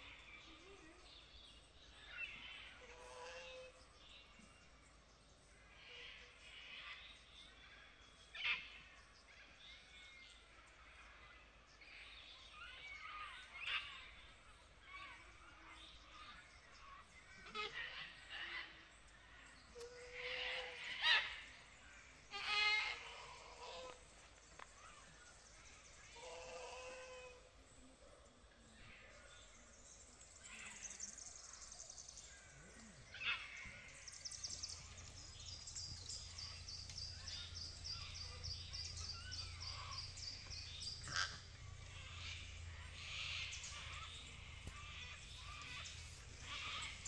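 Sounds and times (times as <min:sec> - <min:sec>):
birds chirping and calling: 0:05.7 - 0:47.0.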